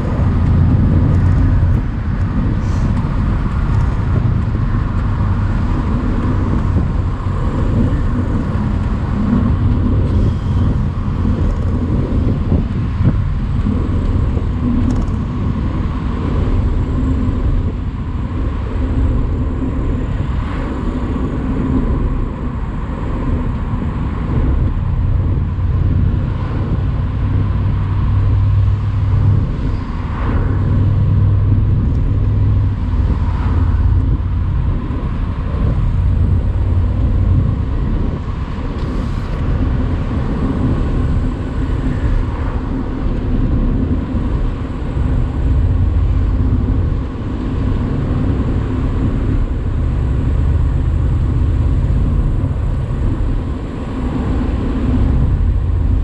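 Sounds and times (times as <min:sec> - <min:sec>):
car engine at part-throttle: 0:00.0 - 0:56.0
tyre and road noise: 0:00.0 - 0:56.0.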